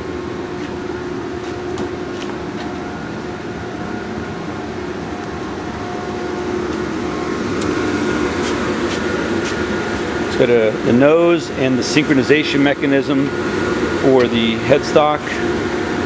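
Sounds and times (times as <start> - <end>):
machine shop hum: 0.0 - 16.0.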